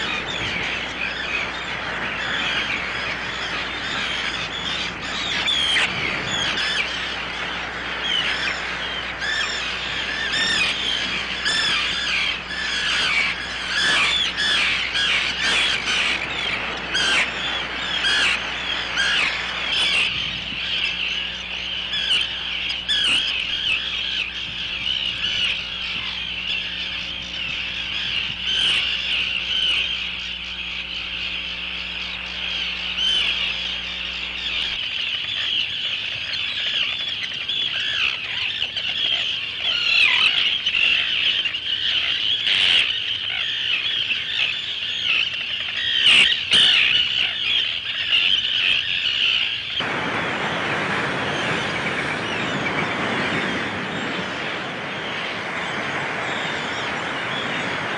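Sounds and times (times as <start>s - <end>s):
tern colony calling: 0.0s - 57.9s.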